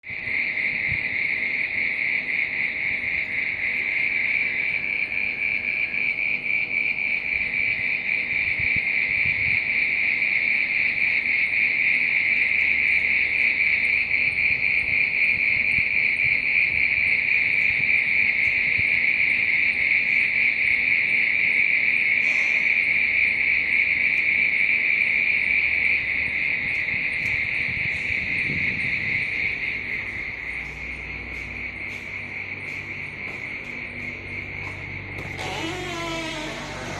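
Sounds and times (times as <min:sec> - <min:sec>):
crickets chirping: 0:00.0 - 0:36.9.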